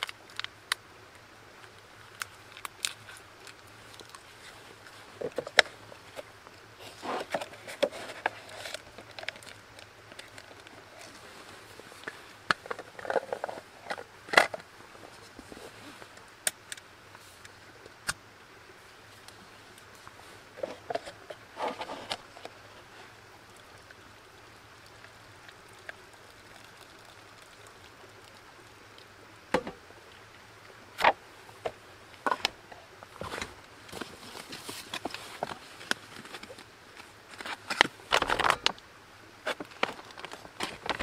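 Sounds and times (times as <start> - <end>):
thermos and container handling: 1.6 - 18.2, 19.1 - 24.1, 24.7 - 29.9, 30.9 - 38.8, 39.4 - 41.0.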